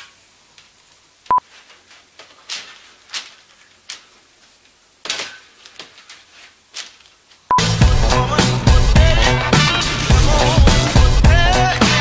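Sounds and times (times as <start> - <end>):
wire rustling and scraping: 0.0 - 12.0.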